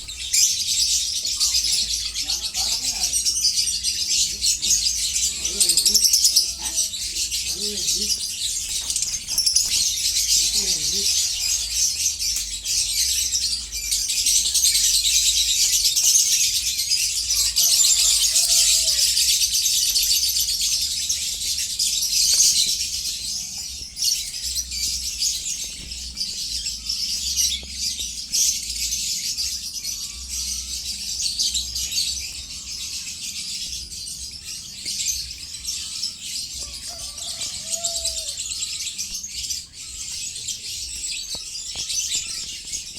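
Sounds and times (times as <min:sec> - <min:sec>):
lovebirds chattering: 0:00.0 - 0:42.9.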